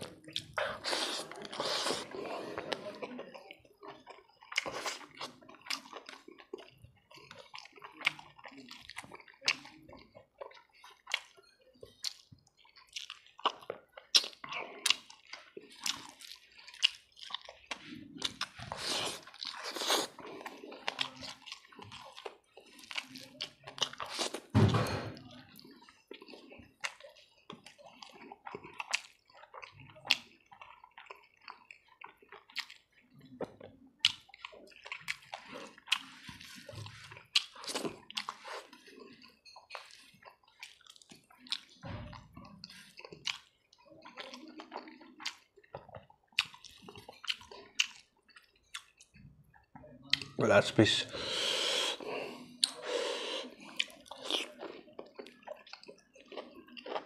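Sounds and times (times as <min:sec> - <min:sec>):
wet chewing and lip smacking: 0:00.0 - 0:24.5, 0:25.3 - 0:50.4, 0:51.2 - 0:57.0.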